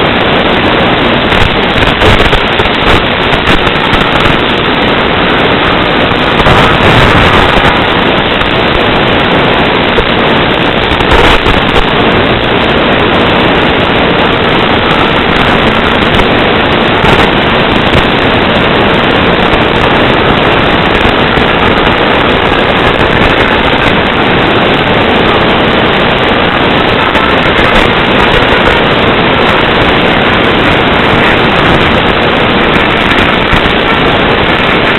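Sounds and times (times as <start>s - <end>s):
static hiss: 0.0s - 34.9s.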